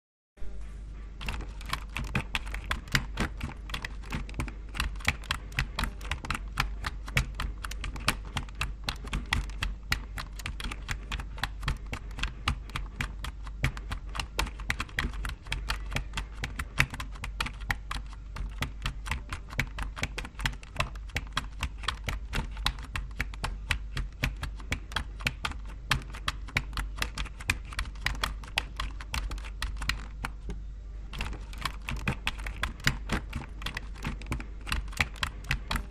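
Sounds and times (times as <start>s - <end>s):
low steady hum: 0.4s - 35.9s
keyboard typing: 1.2s - 30.5s, 31.1s - 35.9s.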